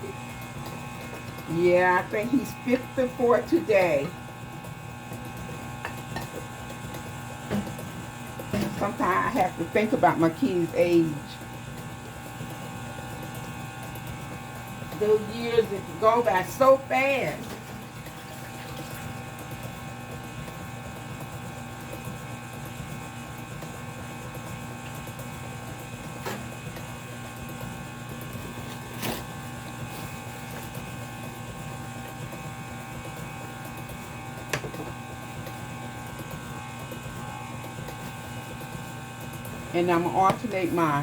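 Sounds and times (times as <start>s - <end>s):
electric mixer motor running: 0.0s - 41.0s.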